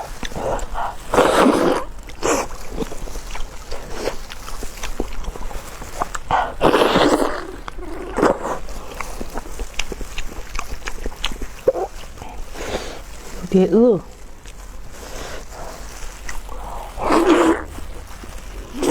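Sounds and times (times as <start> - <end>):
slurps: 0.0 - 13.5, 14.4 - 18.9
person chewing and smacking: 0.0 - 18.9.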